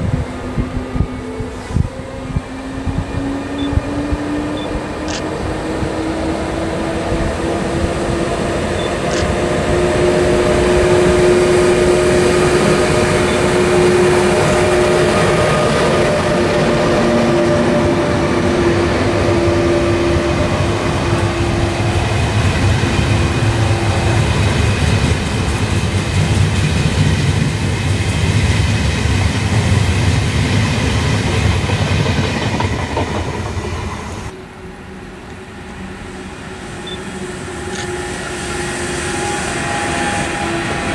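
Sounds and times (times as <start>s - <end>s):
train wheels rumbling and clattering: 0.0s - 34.4s
electric locomotive whine: 0.0s - 40.9s.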